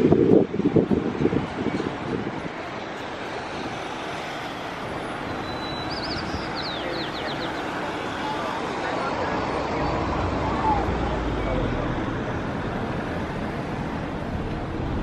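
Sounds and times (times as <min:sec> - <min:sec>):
cars driving past: 0:01.2 - 0:15.0.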